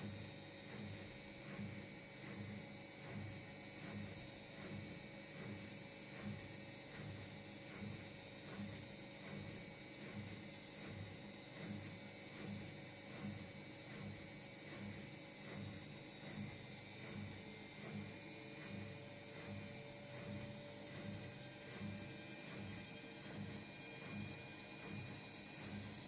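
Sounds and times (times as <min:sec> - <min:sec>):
low rhythmic pulsing: 0:00.0 - 0:26.0
washing machine motor whine: 0:00.0 - 0:26.0.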